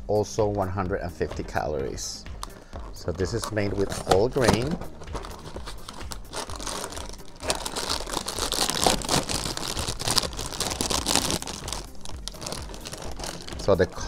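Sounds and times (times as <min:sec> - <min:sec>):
plastic bag crackling: 0:02.4 - 0:14.0.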